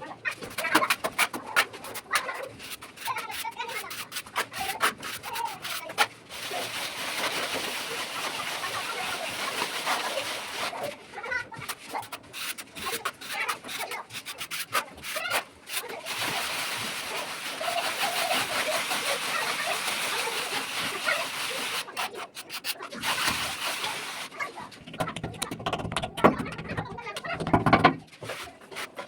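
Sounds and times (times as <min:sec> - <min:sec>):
trowel scraping wet plaster: 0:00.2 - 0:29.0.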